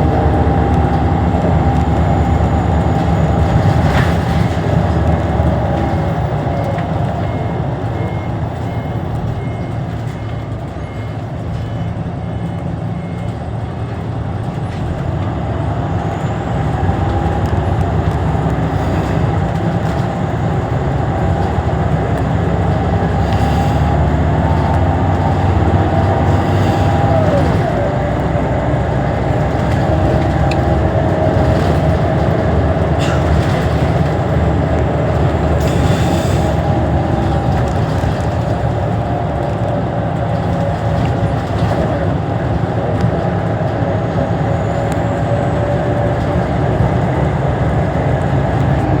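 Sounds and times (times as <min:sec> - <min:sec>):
bus engine drone with whine: 0:00.0 - 0:49.0.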